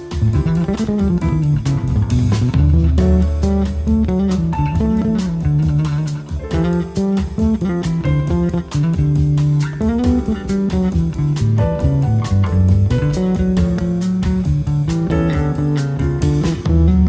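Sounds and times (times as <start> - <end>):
bass guitar line: 0.0 - 17.0
plucked guitar: 0.0 - 17.0
steady beat: 0.0 - 17.0.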